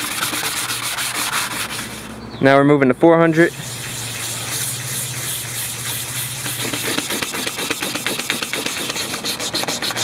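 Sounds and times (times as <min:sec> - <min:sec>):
sandpaper rubbing on metal blade: 0:00.0 - 0:02.1, 0:03.5 - 0:10.0.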